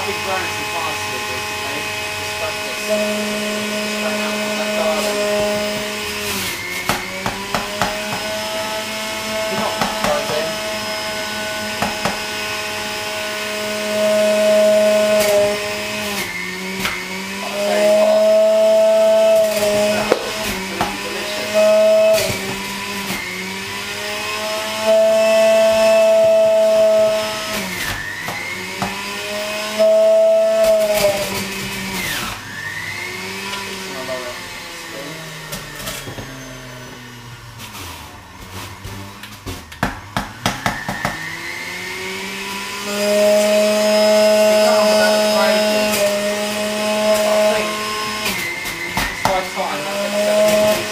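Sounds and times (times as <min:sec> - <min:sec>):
juicer grinding produce: 0:00.0 - 0:50.9
juicer motor whining: 0:00.0 - 0:50.9.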